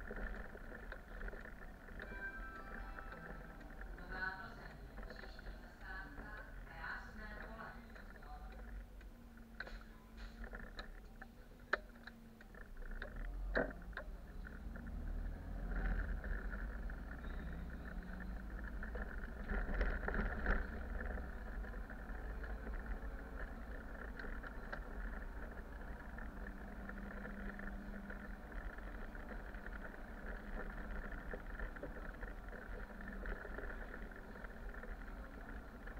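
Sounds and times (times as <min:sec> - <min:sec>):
bus engine and road rumble: 0:00.0 - 0:35.9.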